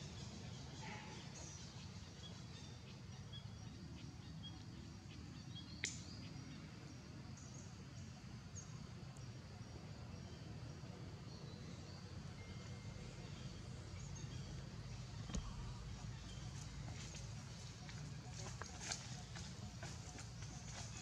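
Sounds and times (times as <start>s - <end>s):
steady low outdoor noise: 0.0s - 21.0s.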